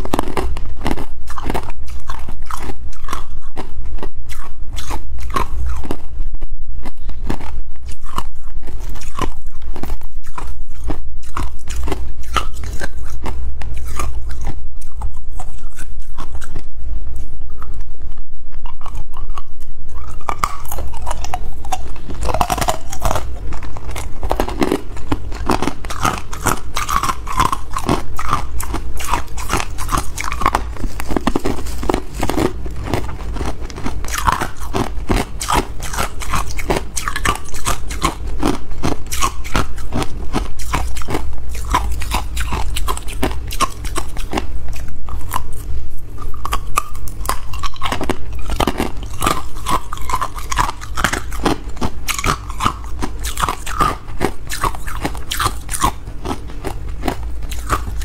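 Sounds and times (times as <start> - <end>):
ice being chewed: 0.0 - 17.9, 18.6 - 58.0.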